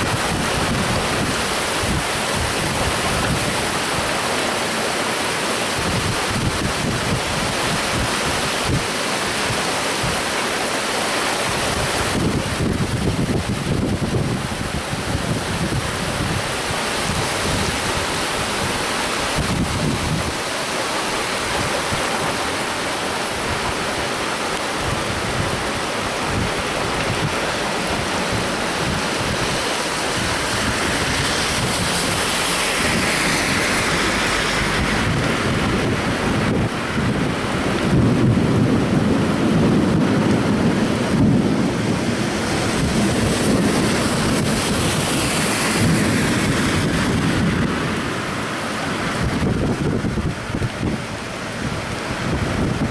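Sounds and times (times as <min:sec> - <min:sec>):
heavy rain on flooded street: 0:00.0 - 0:52.9
truck splashing through water: 0:00.0 - 0:52.9
wind gusting against microphone: 0:00.0 - 0:52.9.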